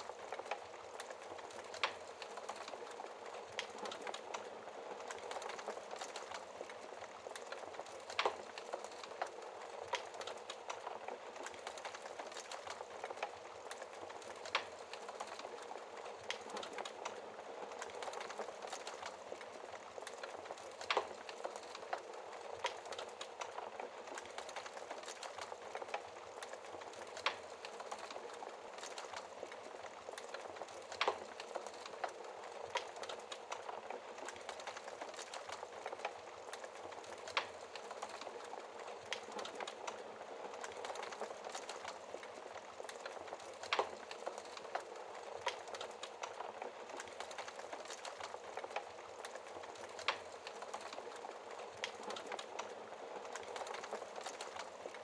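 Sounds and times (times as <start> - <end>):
wood fire hissing and crackling: 0.0 - 55.0.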